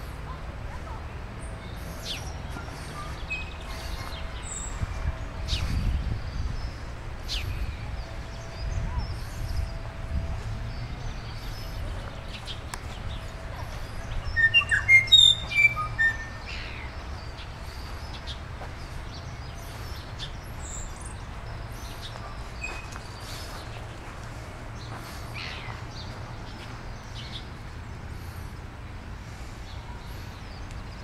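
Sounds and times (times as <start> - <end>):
songbirds chirping: 0.0 - 31.0.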